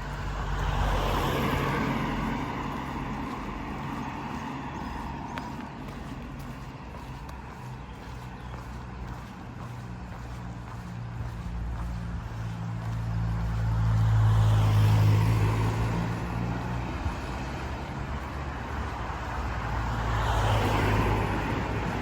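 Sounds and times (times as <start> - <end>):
cars passing: 0.0 - 22.0
low engine hum: 0.0 - 22.0.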